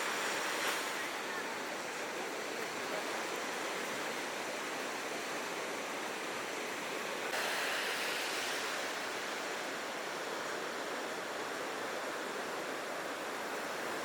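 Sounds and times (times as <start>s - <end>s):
ocean surf washing on shore: 0.0s - 14.0s.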